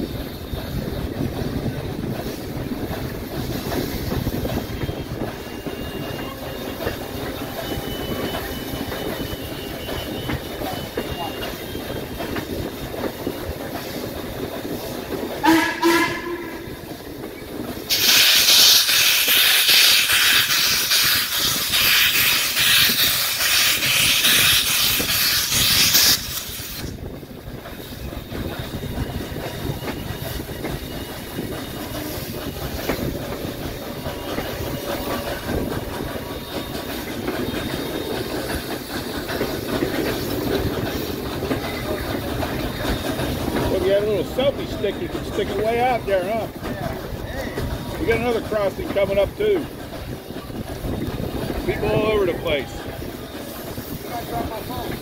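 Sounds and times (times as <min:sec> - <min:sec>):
steam locomotive hissing: 0:00.0 - 0:55.0
train rolling rumble: 0:00.0 - 0:55.0.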